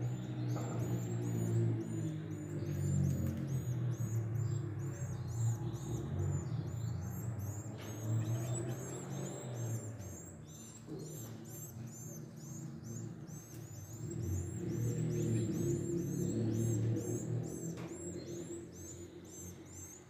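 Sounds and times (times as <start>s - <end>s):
nestlings chirping: 0.0s - 20.0s.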